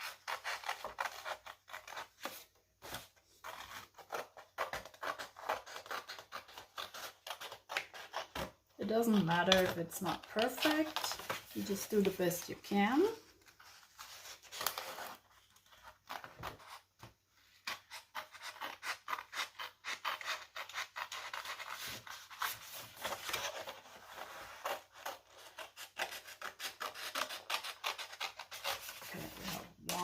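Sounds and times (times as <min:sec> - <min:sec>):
scissors cutting paper: 0:00.0 - 0:02.4, 0:03.4 - 0:13.2, 0:17.6 - 0:30.0.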